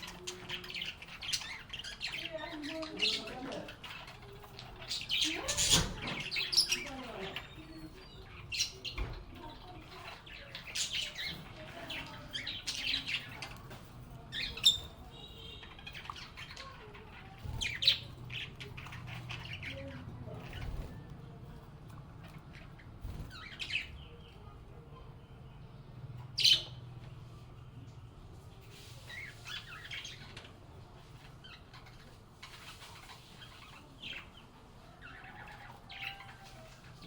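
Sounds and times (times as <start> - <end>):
lovebirds chirping and squawking: 0.0 - 27.5, 28.1 - 37.0.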